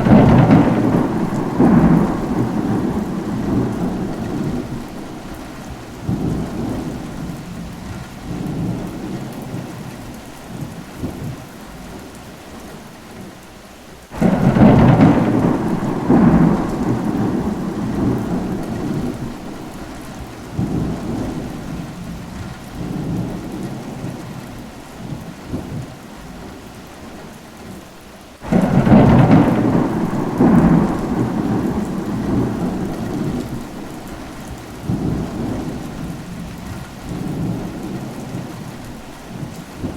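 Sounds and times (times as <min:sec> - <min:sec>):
thunder claps rumbling: 0:00.0 - 0:11.5, 0:14.2 - 0:26.0, 0:28.4 - 0:39.9
steady rain: 0:00.0 - 0:39.9.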